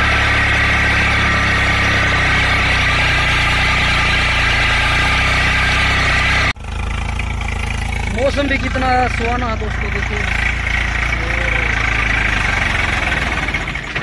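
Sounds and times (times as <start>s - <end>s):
quieter engine sound: 0.0s - 13.9s
tractor diesel engine running: 0.0s - 14.0s.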